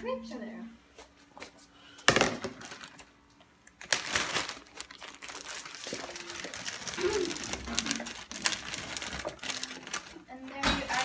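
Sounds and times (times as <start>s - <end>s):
plastic bag crinkling: 2.1s - 11.0s.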